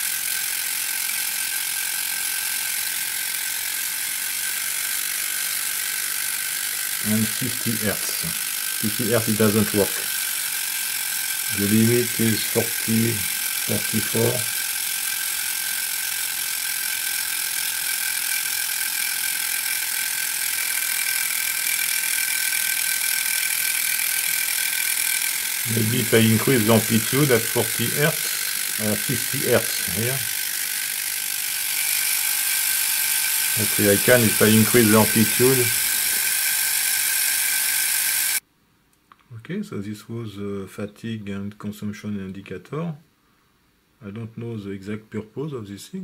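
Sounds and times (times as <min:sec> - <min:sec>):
mechanical counter chattering: 0:00.0 - 0:38.4.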